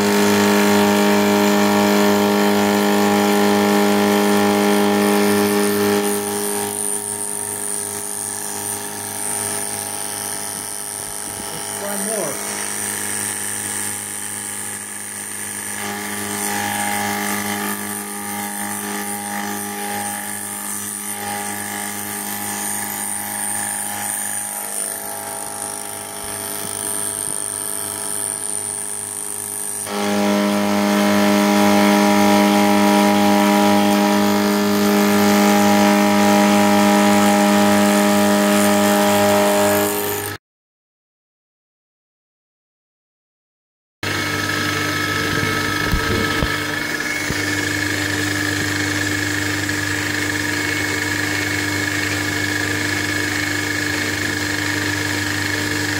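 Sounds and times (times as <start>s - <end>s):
cutter cutting steel: 0.0s - 40.4s, 44.0s - 55.9s
milling machine whine: 0.0s - 40.4s, 44.1s - 55.9s.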